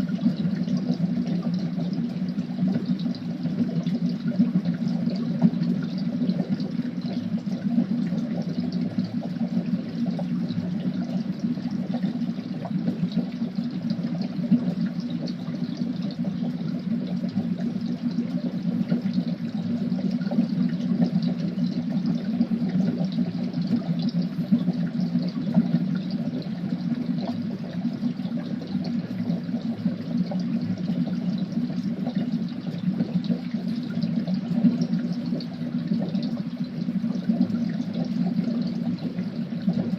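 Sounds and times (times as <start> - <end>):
liquid bubbling steadily: 0.0 - 39.9.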